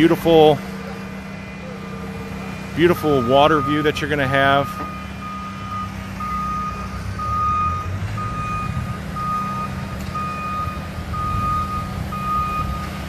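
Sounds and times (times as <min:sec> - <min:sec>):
low engine rumble: 0:00.0 - 0:13.0
reversing alarm beeping: 0:00.0 - 0:13.0.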